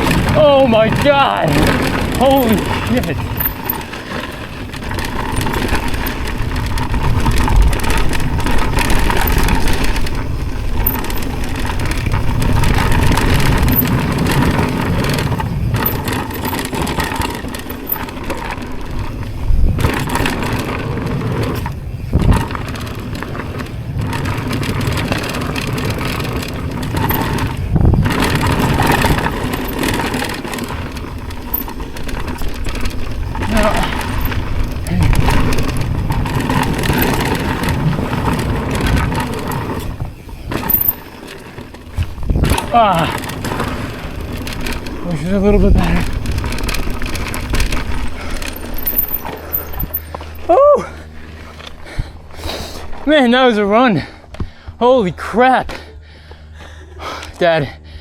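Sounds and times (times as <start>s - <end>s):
tyres rolling over dirt and rocks: 0.0s - 54.4s
bike rattling: 0.0s - 58.0s.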